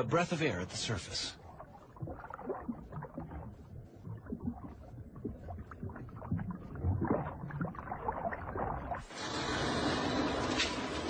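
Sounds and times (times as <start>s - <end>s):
water swishing and sloshing: 0.0s - 11.0s.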